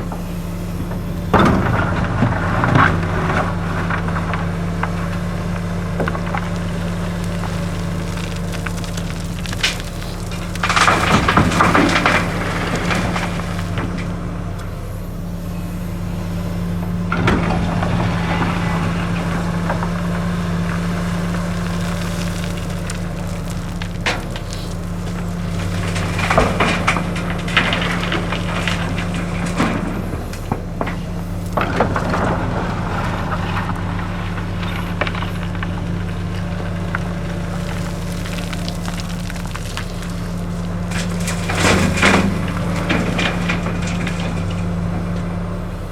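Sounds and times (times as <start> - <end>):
excavator diesel engine running: 0.0 - 45.9
gravel clattering and scraping: 0.0 - 45.9.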